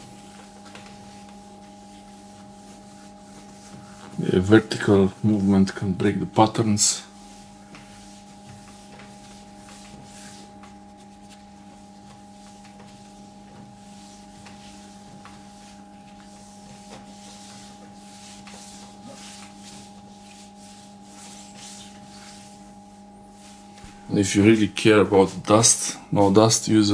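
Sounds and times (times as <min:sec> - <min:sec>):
paper towel wiping a screen: 0:00.0 - 0:24.6
steady hum: 0:00.0 - 0:26.9.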